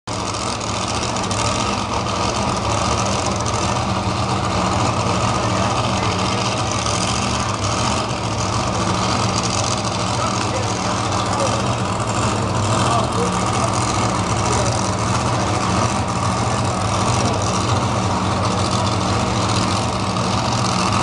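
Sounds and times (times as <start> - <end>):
tractor engine idling: 0.1 - 21.0.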